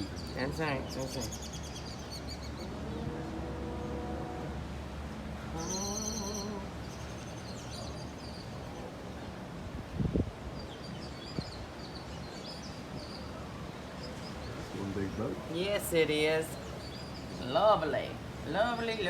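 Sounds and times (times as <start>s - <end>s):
small birds chirping: 0.0s - 3.1s, 5.5s - 19.0s.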